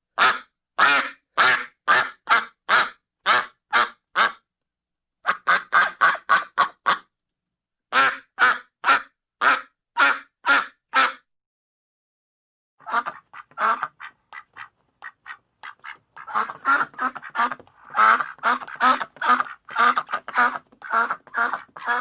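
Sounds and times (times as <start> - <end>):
duck quacking: 0.2 - 4.4, 5.2 - 7.1, 7.9 - 11.3, 12.8 - 22.0.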